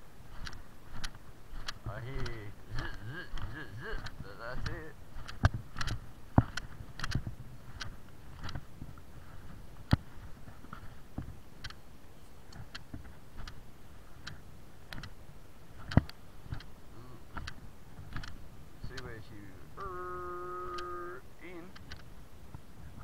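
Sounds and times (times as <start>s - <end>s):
footsteps on stony dirt: 0.0s - 19.2s.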